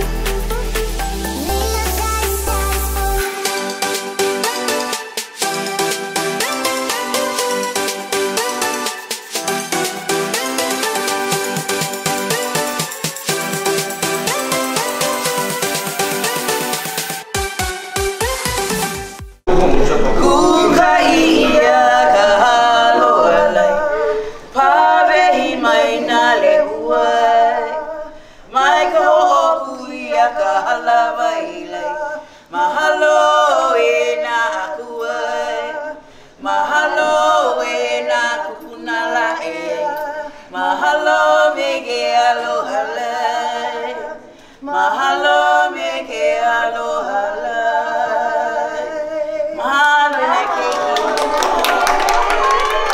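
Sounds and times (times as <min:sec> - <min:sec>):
group singing a cappella: 0:00.0 - 0:17.1, 0:19.5 - 0:52.9.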